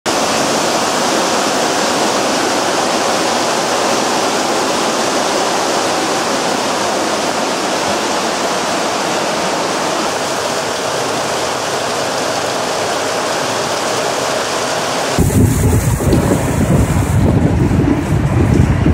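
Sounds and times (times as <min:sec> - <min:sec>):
heavy rain downpour: 0:00.1 - 0:18.9.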